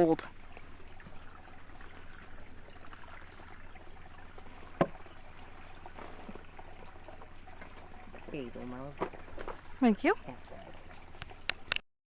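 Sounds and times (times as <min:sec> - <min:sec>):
stream trickling: 0:00.0 - 0:11.8.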